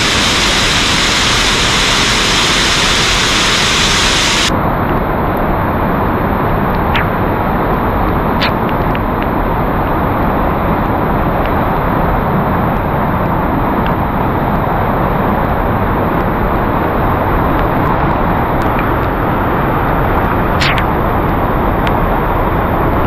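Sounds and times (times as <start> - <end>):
stream rushing over rocks: 0.0 - 4.5, 6.9 - 22.9.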